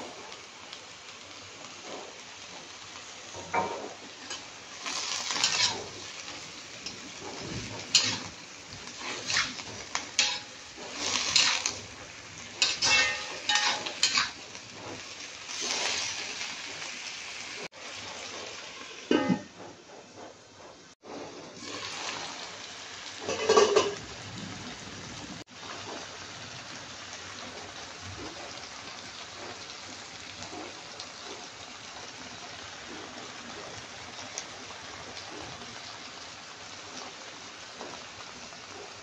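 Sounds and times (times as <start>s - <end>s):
food frying in a wok: 0.0s - 39.0s.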